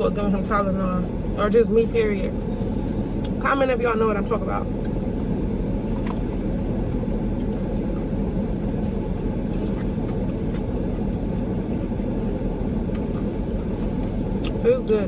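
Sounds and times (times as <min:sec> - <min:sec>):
car engine idling rumble: 0:00.0 - 0:15.0.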